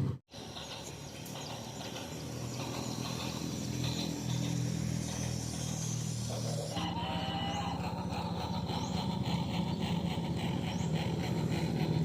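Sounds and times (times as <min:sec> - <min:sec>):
model train motor hum: 0:00.0 - 0:12.0
train wheels clicking over rail joints: 0:00.3 - 0:12.0.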